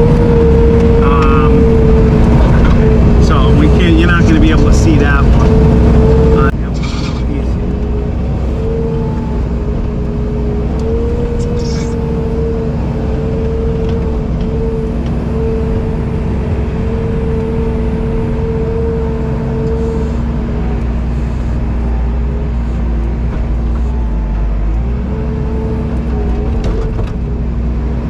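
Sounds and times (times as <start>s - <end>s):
vehicle engine droning: 0.0s - 28.0s
wavering engine whine: 0.0s - 28.0s.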